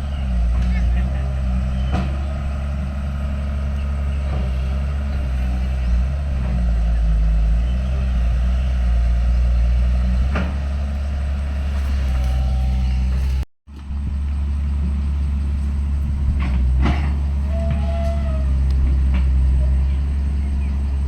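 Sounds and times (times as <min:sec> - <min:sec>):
heavy diesel machine engine: 0:00.0 - 0:21.0.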